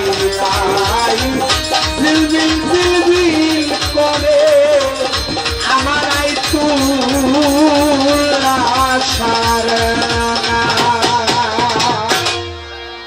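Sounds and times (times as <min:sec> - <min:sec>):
quick drum beat: 0:00.0 - 0:12.2.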